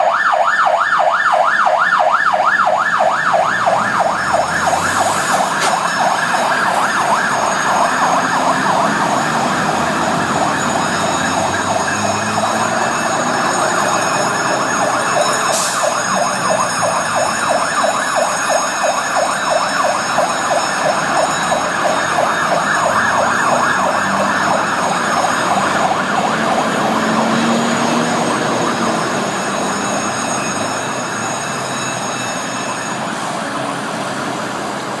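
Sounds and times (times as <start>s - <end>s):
fire engine siren yelping: 0.0s - 35.0s.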